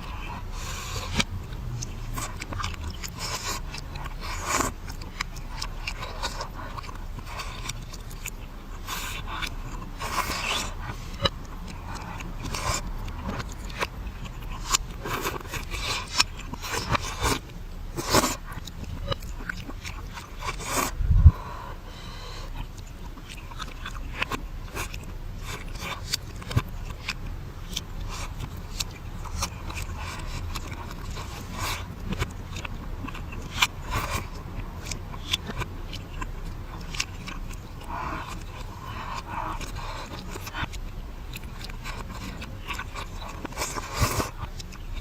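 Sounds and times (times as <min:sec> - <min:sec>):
reversed eating sounds: 0:00.0 - 0:45.0.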